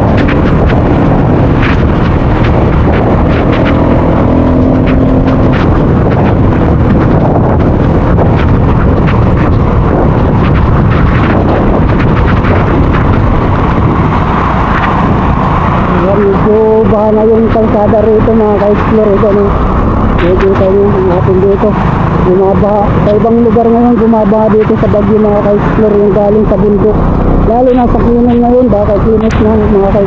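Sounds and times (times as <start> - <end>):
loud steady rumble: 0.0 - 30.0
wind noise on microphone: 0.0 - 30.0
raindrops ticking on camera: 0.1 - 30.0.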